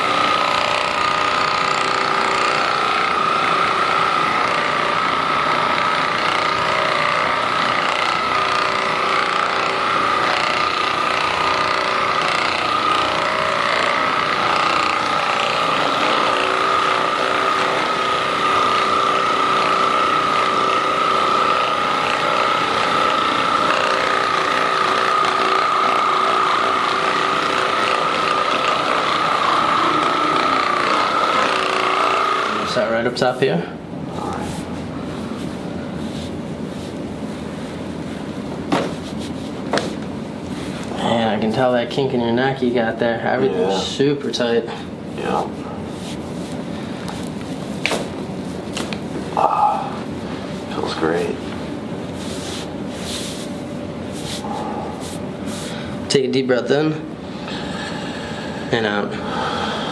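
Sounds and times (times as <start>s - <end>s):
electric massager whining: 0.0s - 59.9s.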